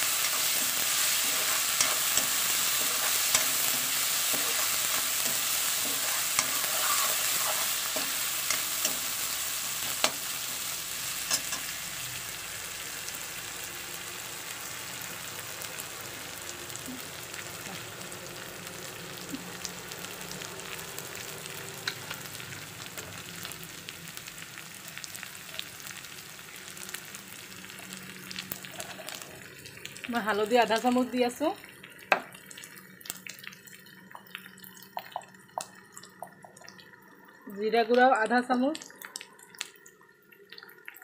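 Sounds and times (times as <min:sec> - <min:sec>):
onions sizzling in hot oil: 0:00.0 - 0:39.8.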